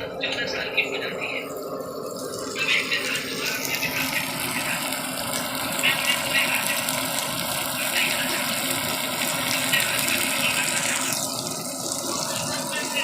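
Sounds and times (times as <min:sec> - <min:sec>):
fish sizzling in hot oil: 0:01.1 - 0:13.0.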